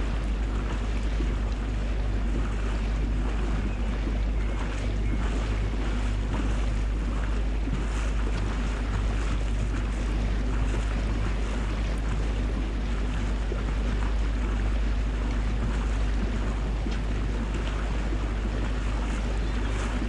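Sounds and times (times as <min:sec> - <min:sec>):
motorboat engine running: 0:00.0 - 0:20.0
water rushing along hull: 0:00.0 - 0:20.0
wind on microphone: 0:00.0 - 0:20.0.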